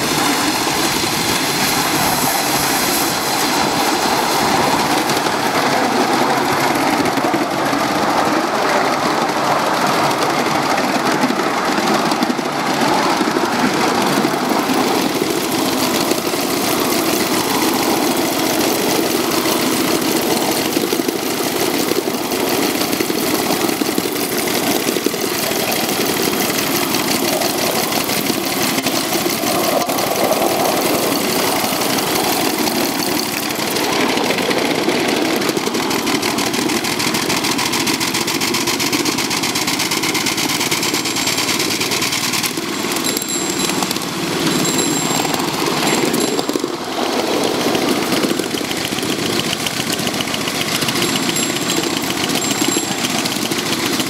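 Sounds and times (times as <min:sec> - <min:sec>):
steam locomotive running: 0:00.0 - 0:54.0
wheels on rails: 0:00.0 - 0:54.0.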